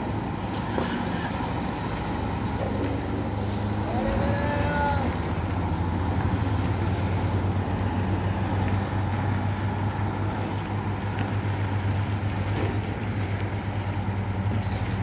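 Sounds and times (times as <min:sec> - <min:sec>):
diesel bus engine droning: 0:00.0 - 0:15.0.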